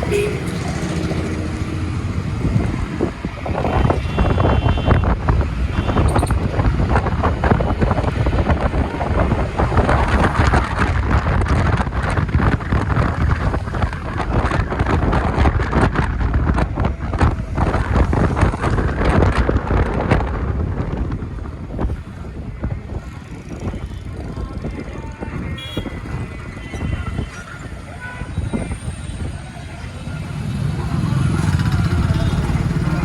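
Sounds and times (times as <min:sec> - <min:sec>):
road noise: 0:00.0 - 0:33.0
wind buffeting microphone: 0:00.0 - 0:33.0.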